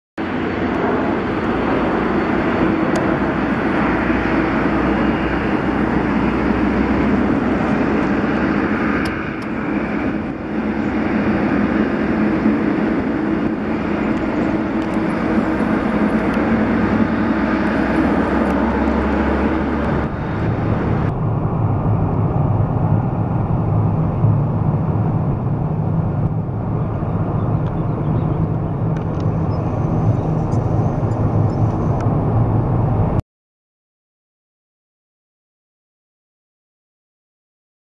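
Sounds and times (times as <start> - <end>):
jet engine noise: 0.2 - 33.2.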